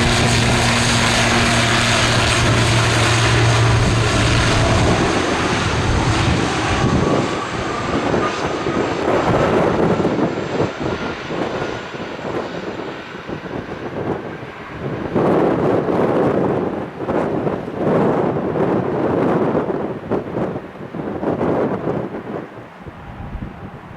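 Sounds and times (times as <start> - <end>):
airliner engines running: 0.0 - 23.9.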